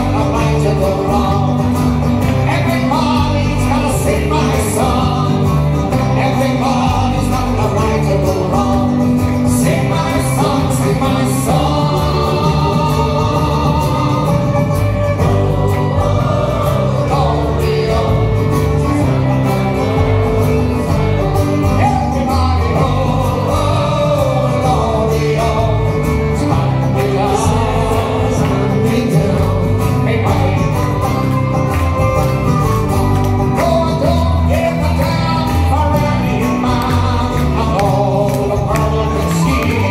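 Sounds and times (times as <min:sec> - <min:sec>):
men singing together: 0:00.0 - 0:31.5, 0:33.4 - 0:39.9
folk band playing: 0:00.0 - 0:39.9.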